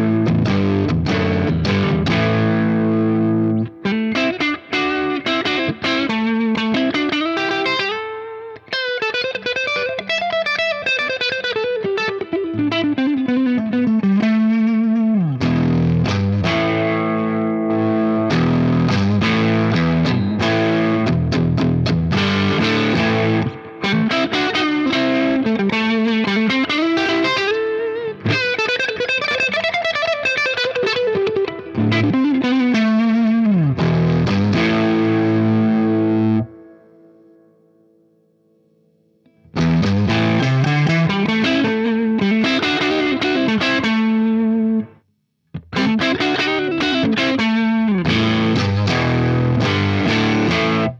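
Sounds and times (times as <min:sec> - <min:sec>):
overdriven electric guitar: 0:00.0 - 0:50.9.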